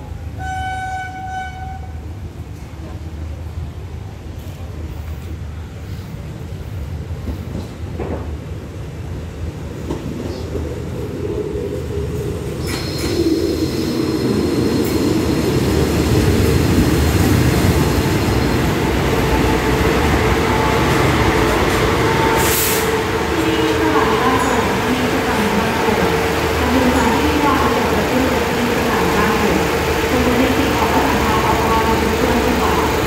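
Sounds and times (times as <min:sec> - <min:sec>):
train engine and wheel rumble: 0:00.0 - 0:33.0.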